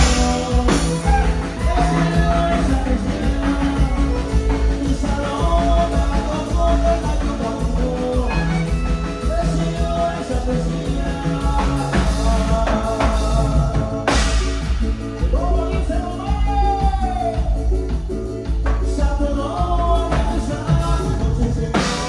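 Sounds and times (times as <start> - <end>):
band playing: 0.0 - 22.0
drums: 0.0 - 22.0
heavy bass: 0.0 - 22.0
person singing: 0.0 - 22.0.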